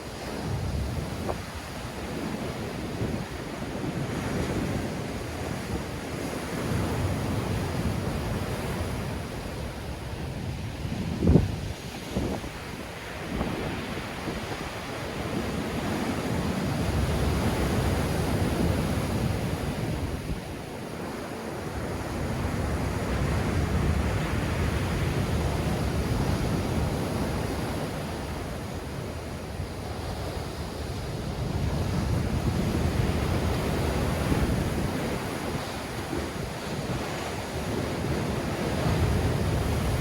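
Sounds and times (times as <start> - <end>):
waves breaking: 0.0 - 40.0
wind buffeting microphone: 0.1 - 40.0.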